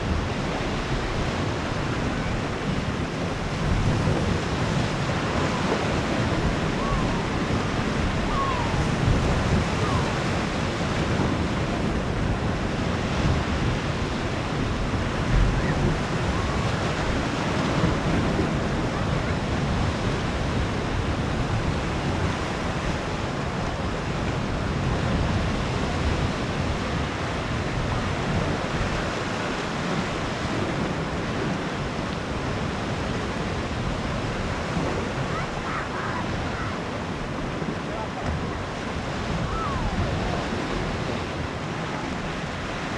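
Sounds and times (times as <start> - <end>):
sea waves washing onto shore: 0.0 - 42.9
wind buffeting microphone: 0.0 - 42.9.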